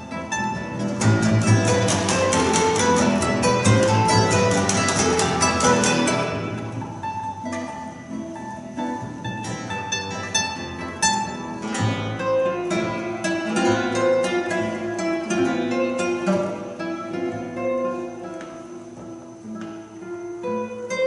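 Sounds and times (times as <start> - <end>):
double bass notes: 0.0 - 21.0
plucked classical guitars: 0.0 - 21.0.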